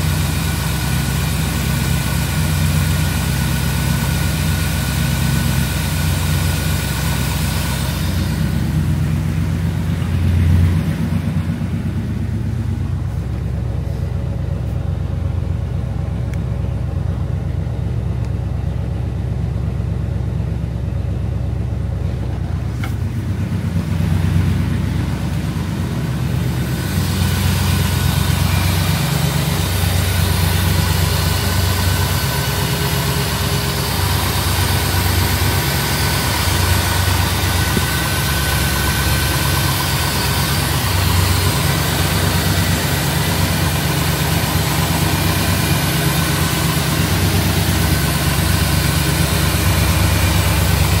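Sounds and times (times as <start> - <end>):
engine fan and belts: 0.0 - 51.0
engine idling: 0.0 - 51.0.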